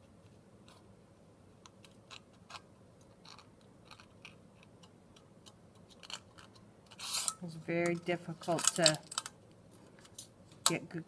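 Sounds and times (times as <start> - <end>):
aluminum sheet crinkling: 1.6 - 11.0.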